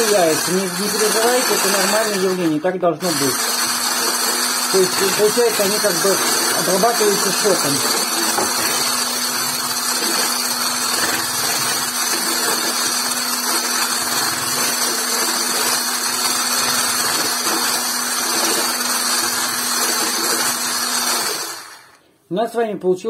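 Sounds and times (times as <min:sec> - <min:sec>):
electric hand blender whisking: 0:00.0 - 0:22.0.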